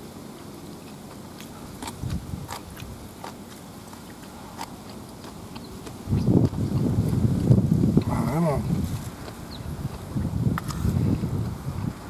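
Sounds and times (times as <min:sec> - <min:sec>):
person chewing: 0:00.3 - 0:11.6.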